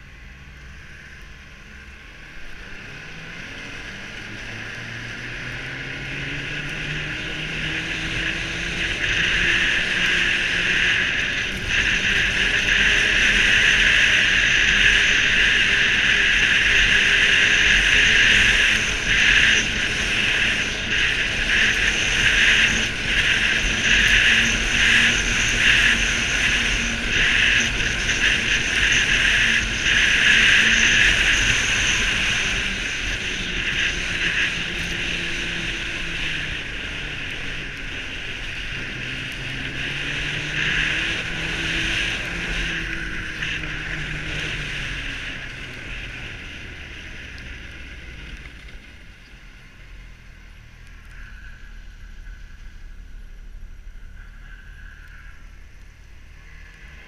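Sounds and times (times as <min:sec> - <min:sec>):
wind noise: 0:00.0 - 0:49.5
snowmobile engine: 0:00.0 - 0:57.0
snowmobile track noise: 0:00.0 - 0:57.0.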